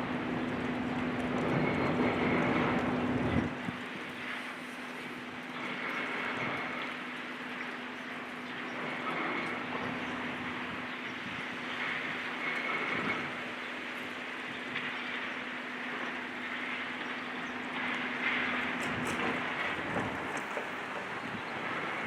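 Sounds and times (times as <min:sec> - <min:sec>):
heavy machinery engine hum: 0:00.0 - 0:22.0.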